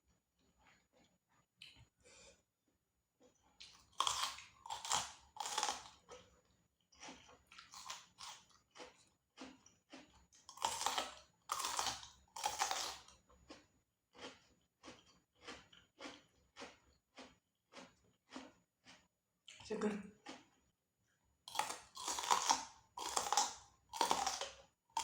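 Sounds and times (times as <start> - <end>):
crunchy food being chewed: 0.4 - 2.0, 3.2 - 25.0.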